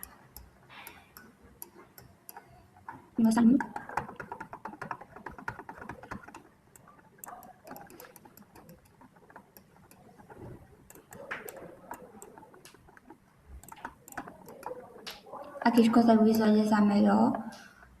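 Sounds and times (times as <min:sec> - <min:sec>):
keyboard and mouse clicking: 0:00.0 - 0:16.7.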